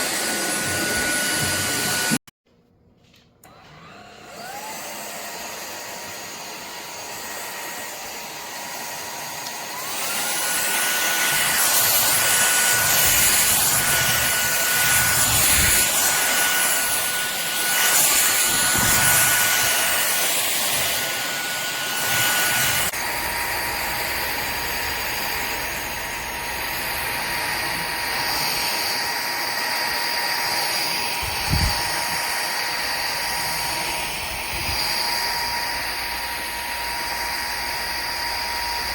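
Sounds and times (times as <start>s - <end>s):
vacuum motor whine: 0.0s - 2.2s, 3.4s - 38.9s.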